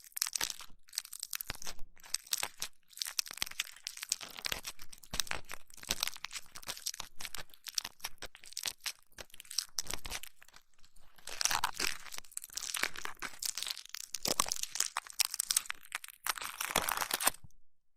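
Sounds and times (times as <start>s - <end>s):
crunchy crackling on microphone: 0.1s - 17.4s.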